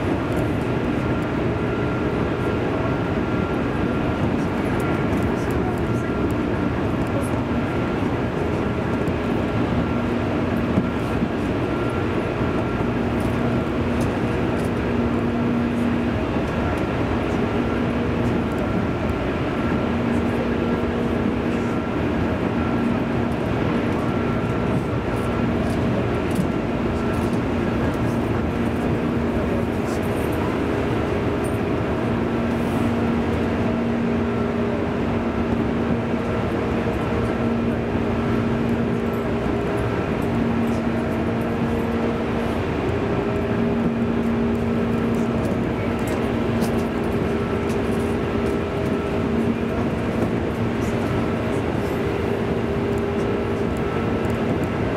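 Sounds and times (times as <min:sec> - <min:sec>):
train motor and gear hum: 0:00.0 - 0:54.9
train wheels rumbling on rail: 0:00.0 - 0:54.9.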